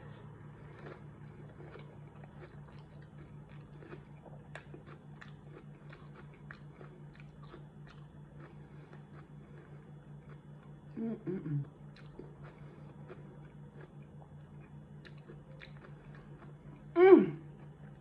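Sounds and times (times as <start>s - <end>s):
steady low hum: 0.0s - 18.0s
crunchy chewing: 0.1s - 11.0s, 11.6s - 18.0s.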